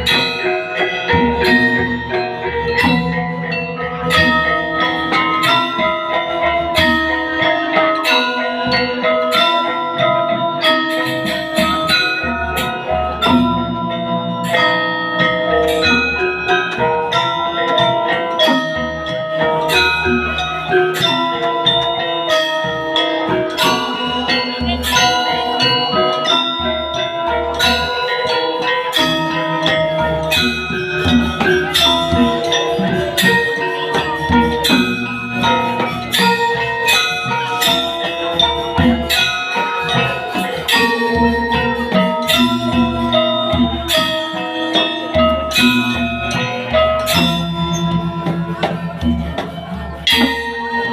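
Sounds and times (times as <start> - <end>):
metallophones struck in fast patterns: 0.0 - 50.9.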